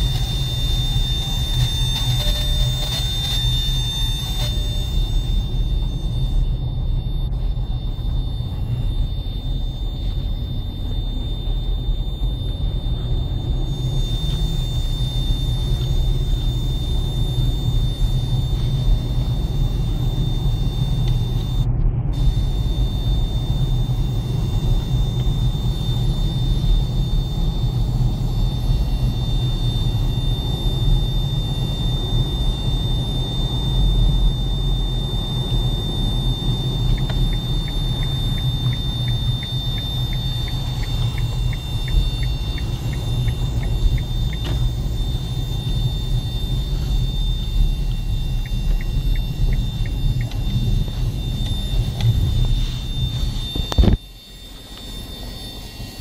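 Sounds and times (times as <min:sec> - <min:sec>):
car cabin rumble: 0:00.0 - 0:56.0
high-pitched whistle from car stereo: 0:00.0 - 0:56.0.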